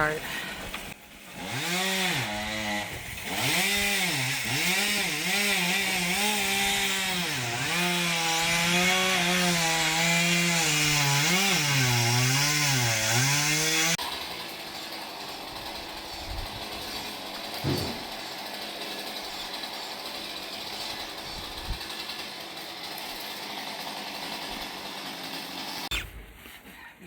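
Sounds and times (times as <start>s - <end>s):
chainsaw cutting wood: 0.0s - 26.2s.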